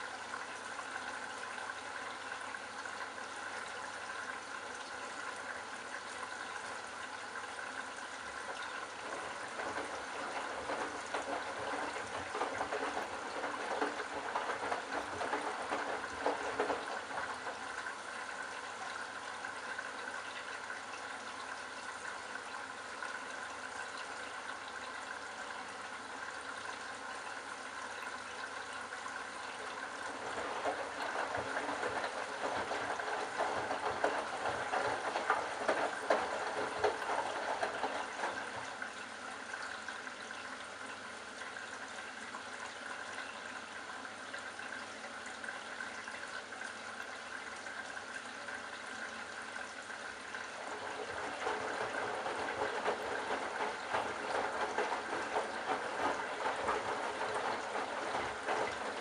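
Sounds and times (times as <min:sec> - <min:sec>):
washing machine water splashing: 0:00.0 - 0:59.0.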